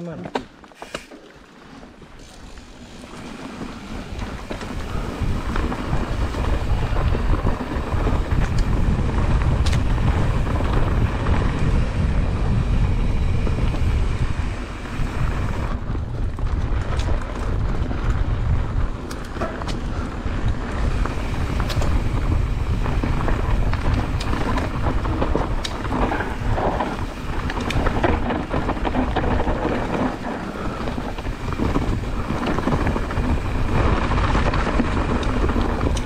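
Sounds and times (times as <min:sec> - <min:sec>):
bike clicks and rattles: 0:00.0 - 0:36.0
bike tyres rumbling on dirt: 0:00.0 - 0:36.0
wind buffeting microphone: 0:02.0 - 0:36.0.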